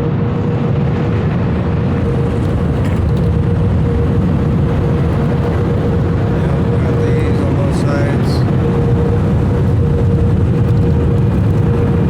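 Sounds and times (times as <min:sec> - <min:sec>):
constant hum: 0:00.0 - 0:12.0
air dryer blowers rushing: 0:01.9 - 0:12.0.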